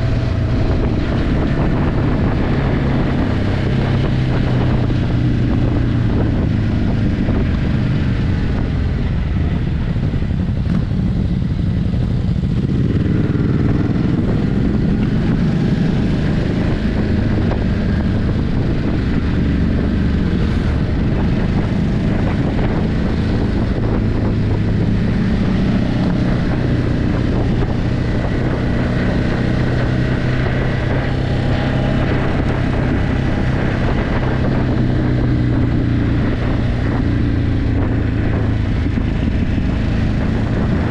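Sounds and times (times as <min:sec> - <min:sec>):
motorcycle engine while riding: 0:00.0 - 0:40.9
wind noise on microphone: 0:00.0 - 0:40.9.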